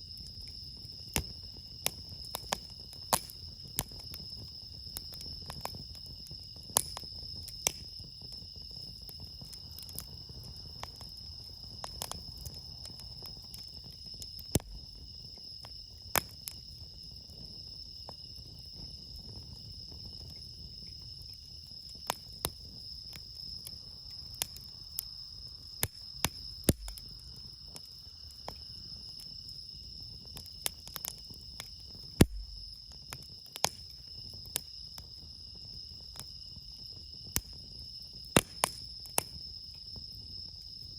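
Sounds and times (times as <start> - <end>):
campfire crackling and popping: 0.0 - 40.9
crickets chirping: 0.0 - 40.9.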